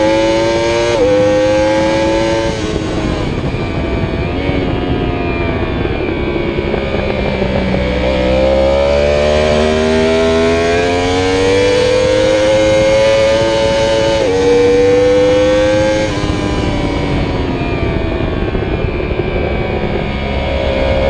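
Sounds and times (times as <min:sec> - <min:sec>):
motorcycle engine accelerating: 0:00.0 - 0:21.0
wind rush: 0:00.0 - 0:21.0.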